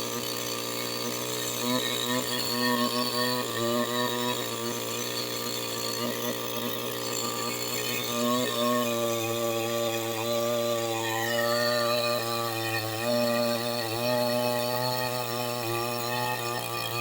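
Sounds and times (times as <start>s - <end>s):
chainsaw cutting a tree: 0.0s - 17.0s.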